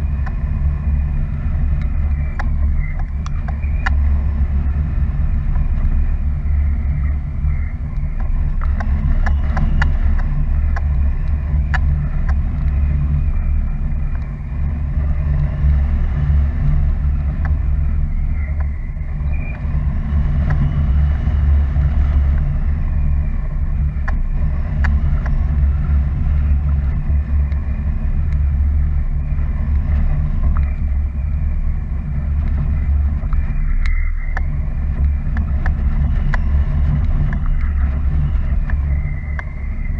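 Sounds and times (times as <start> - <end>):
faint clicks: 0.0 - 6.2, 6.9 - 16.0, 16.6 - 28.6, 32.2 - 39.9
wind buffeting microphone: 0.0 - 39.9.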